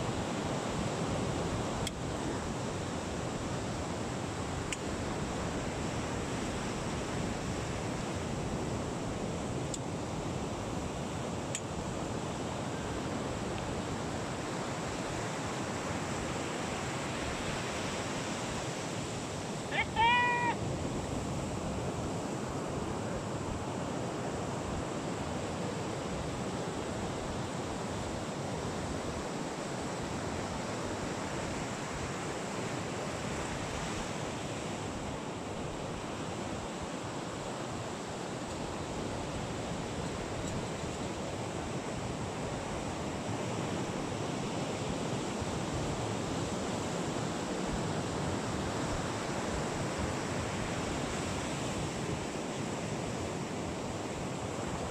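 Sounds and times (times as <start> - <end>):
ocean surf: 0.0 - 54.9.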